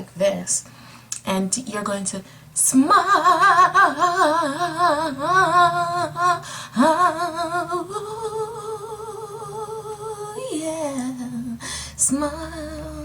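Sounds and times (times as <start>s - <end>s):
woman singing with vibrato: 2.6s - 13.0s.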